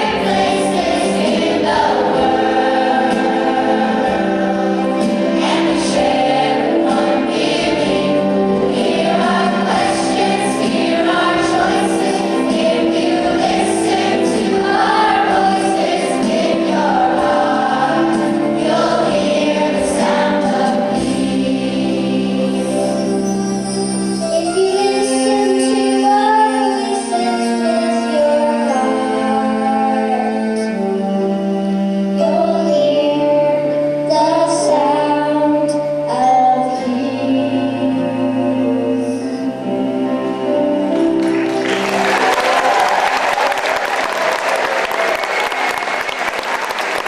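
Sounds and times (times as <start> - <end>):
choir singing: 0.0 - 47.0
instrumental backing: 0.0 - 47.0.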